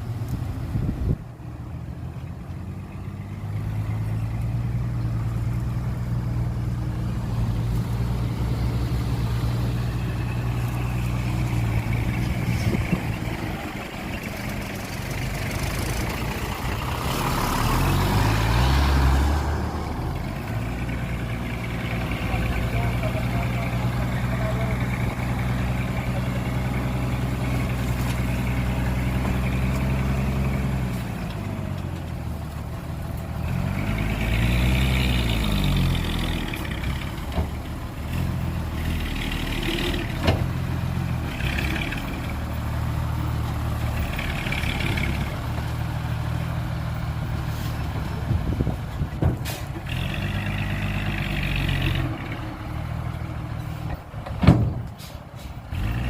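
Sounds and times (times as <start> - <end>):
heavy diesel engine revving: 2.8 - 56.0.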